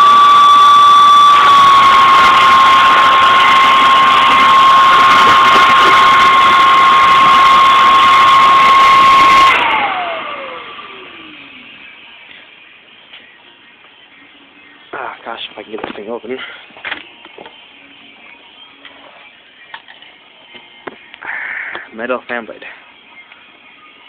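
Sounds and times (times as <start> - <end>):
vacuum cleaner motor whining: 0.0 - 24.0.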